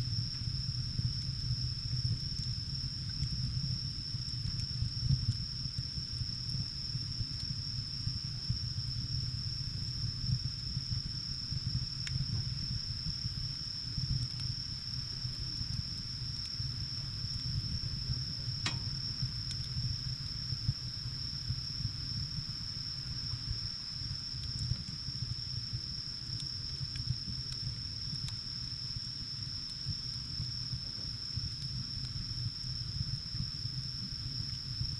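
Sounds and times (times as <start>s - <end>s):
crickets trilling: 0.0s - 34.9s
fire crackling pops: 0.0s - 34.9s
wood fire rumbling: 0.0s - 34.9s.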